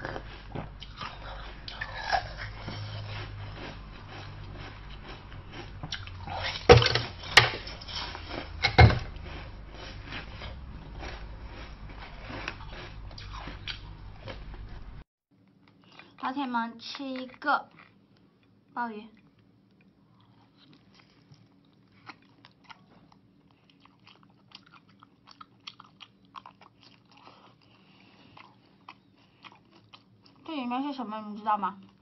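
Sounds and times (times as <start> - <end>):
person chewing soft food: 0.0 - 16.2, 17.2 - 30.5, 31.8 - 32.0.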